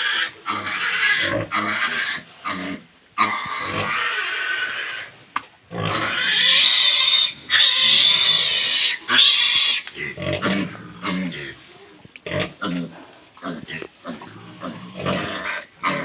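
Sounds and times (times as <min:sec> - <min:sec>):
pigs squealing: 0:00.0 - 0:05.1, 0:05.8 - 0:11.6, 0:13.4 - 0:16.0.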